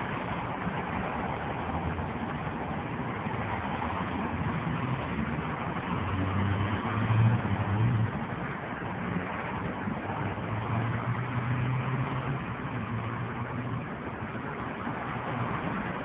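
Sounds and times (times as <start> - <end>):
road traffic hiss: 0.0 - 16.0.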